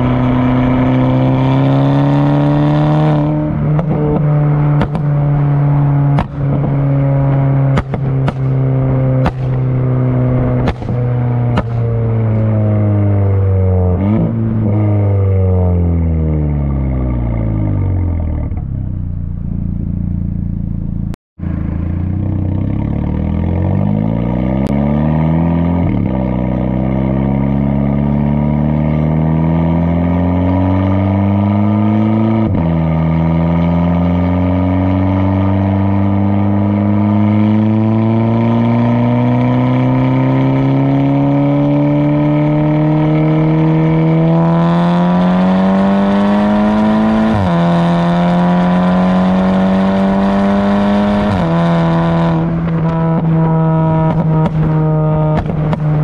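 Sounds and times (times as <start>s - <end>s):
car engine accelerating hard: 0.0s - 19.9s, 21.4s - 56.0s.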